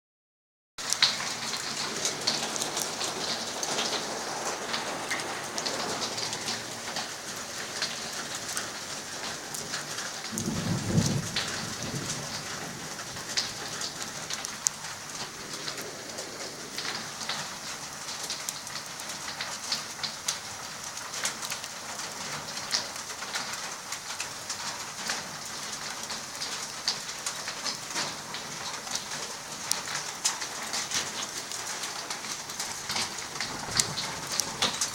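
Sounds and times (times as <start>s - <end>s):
hailstones ticking: 0.8s - 34.9s
steady hiss of rain: 0.8s - 34.9s.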